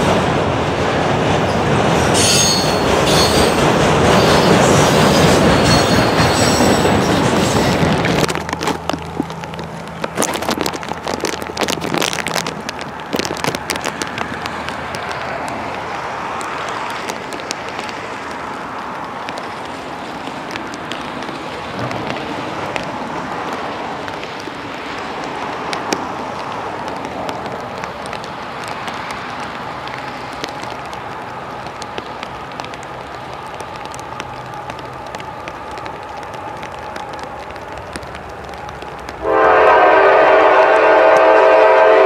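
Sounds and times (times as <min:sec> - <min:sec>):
steady rain falling: 0:00.0 - 0:42.0
sharp raindrop ticks: 0:03.1 - 0:41.3.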